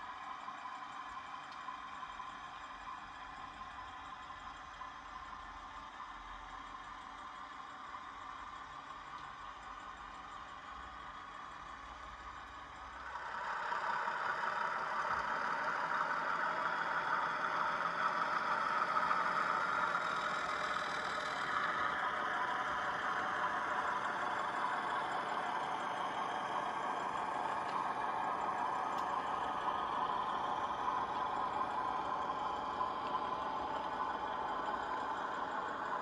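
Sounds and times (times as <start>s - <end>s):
model locomotive diesel engine sound: 0.0s - 36.0s.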